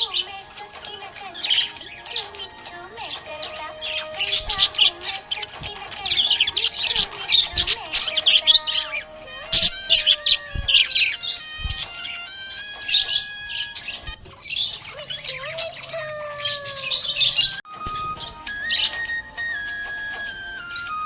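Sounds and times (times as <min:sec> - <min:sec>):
budgerigars chirping: 0:00.0 - 0:21.0.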